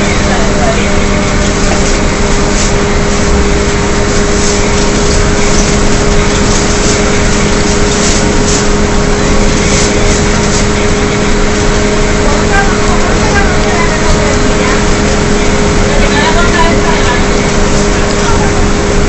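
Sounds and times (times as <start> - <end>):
bus drivetrain howl: 0.0 - 19.0
tyre noise on wet road: 0.0 - 19.0.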